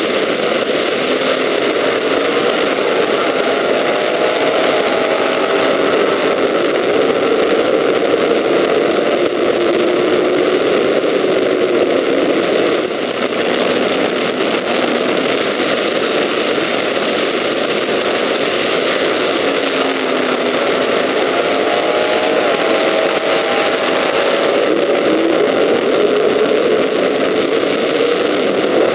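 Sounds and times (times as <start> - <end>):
drag cars at full throttle: 0.0 - 28.9.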